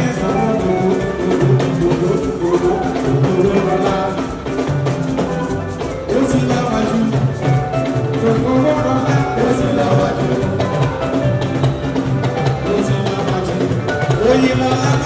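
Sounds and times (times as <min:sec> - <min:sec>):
bass guitar: 0:00.0 - 0:15.0
drums beating: 0:00.0 - 0:15.0
live band playing dance music: 0:00.0 - 0:15.0.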